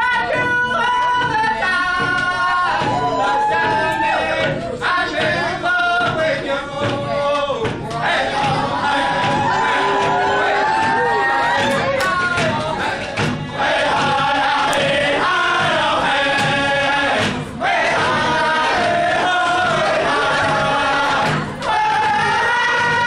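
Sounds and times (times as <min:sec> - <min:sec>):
group singing together: 0:00.0 - 0:23.0
hand drums: 0:00.0 - 0:23.0.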